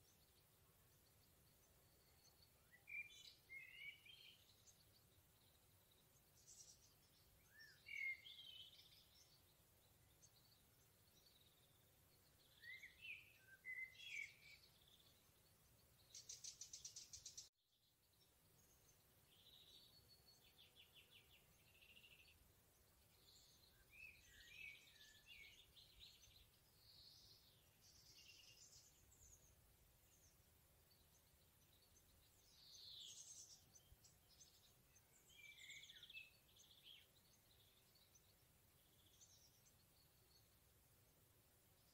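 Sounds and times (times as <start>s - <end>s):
songbirds chirping and warbling: 0.0s - 41.9s.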